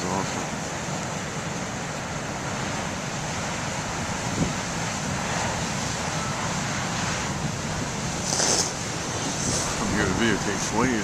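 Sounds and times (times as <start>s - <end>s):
surf breaking: 0.0s - 11.0s
wind blowing across microphone: 0.0s - 11.0s.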